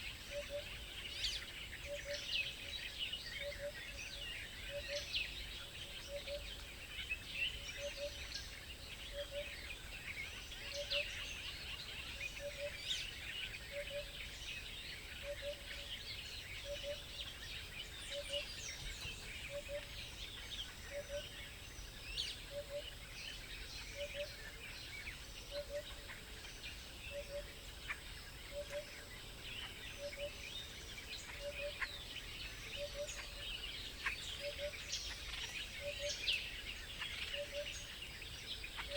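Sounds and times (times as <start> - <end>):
birds chirping and twittering: 0.0 - 38.9.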